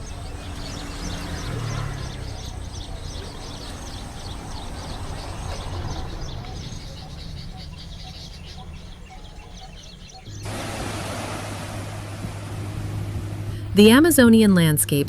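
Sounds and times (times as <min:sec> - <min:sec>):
low rumble: 0:00.0 - 0:14.7
flock of birds chirping: 0:00.0 - 0:15.0.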